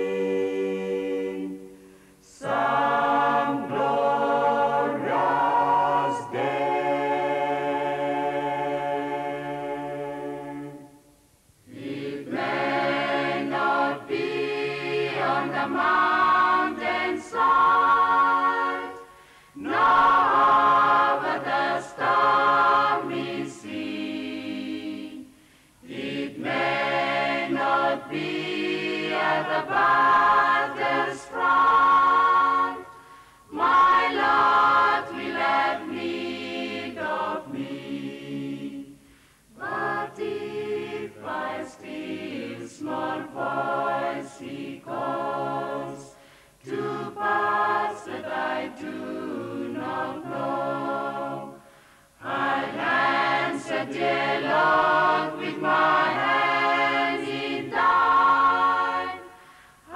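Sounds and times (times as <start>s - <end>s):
church choir singing a hymn: 0.0s - 59.9s.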